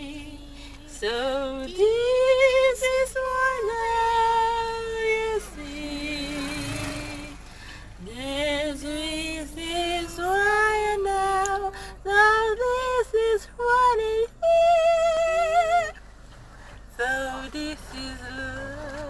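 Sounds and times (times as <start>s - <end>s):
woman singing wordless melody: 0.0s - 16.0s, 16.9s - 19.0s.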